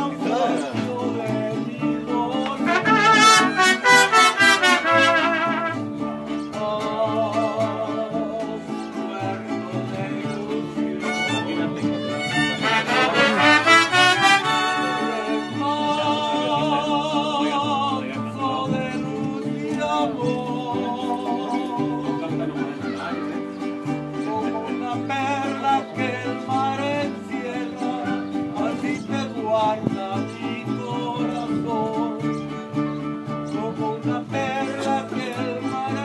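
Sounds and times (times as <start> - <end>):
mariachi band playing: 0.0 - 36.0.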